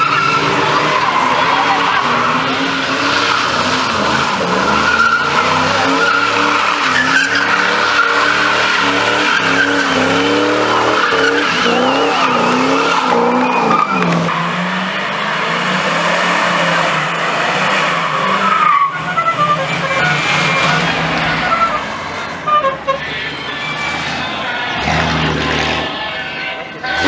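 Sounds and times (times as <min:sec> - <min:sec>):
engines revving hard: 0:00.0 - 0:27.0
tyres squealing on asphalt: 0:00.0 - 0:27.0.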